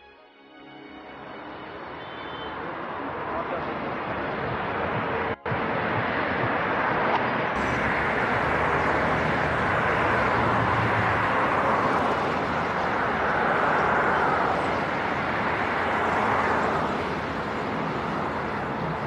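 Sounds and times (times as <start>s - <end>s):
road traffic passing: 0.5s - 19.0s.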